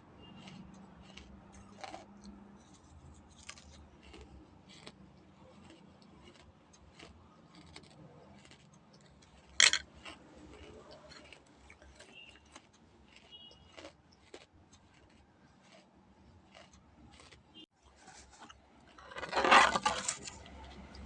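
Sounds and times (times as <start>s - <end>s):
crunchy food chewing: 0.2s - 21.0s.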